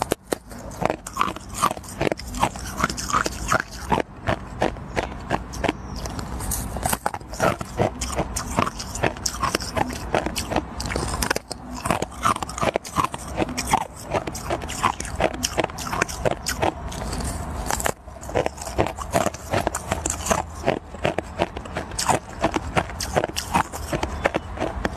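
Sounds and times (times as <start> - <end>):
ice crunching while chewed: 0.0 - 24.9.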